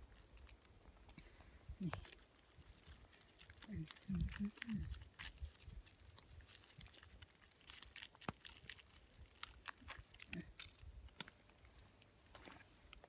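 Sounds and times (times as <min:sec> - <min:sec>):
faint crackling and rustling: 0:00.0 - 0:13.0.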